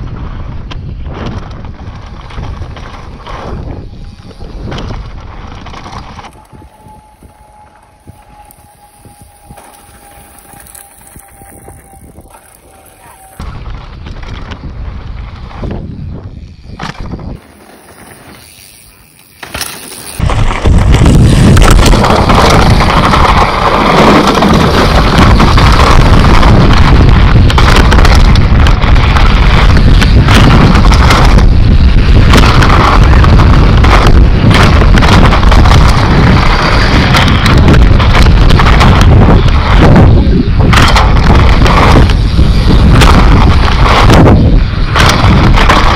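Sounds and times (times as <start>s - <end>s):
wind buffeting microphone: 0.0s - 18.9s, 20.1s - 45.9s
bike tyres crunching on dirt: 0.0s - 45.9s.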